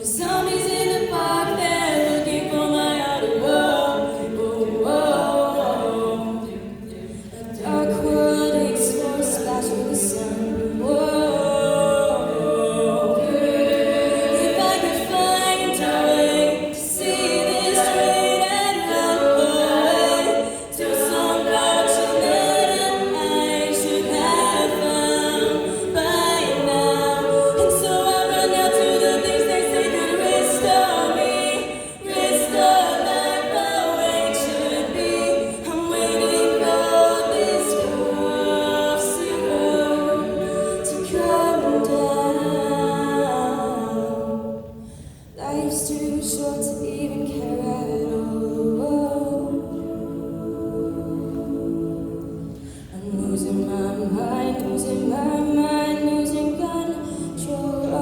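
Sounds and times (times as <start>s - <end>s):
a cappella group singing: 0.0s - 58.0s.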